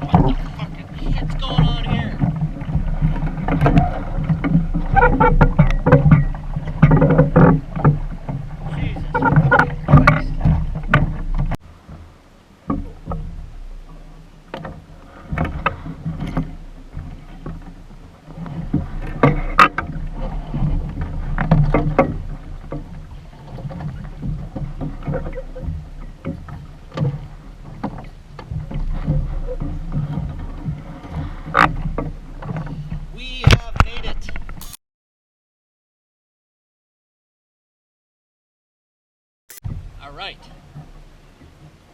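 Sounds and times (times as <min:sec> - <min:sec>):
water splashing against hull: 0:00.0 - 0:34.6, 0:39.6 - 0:41.9.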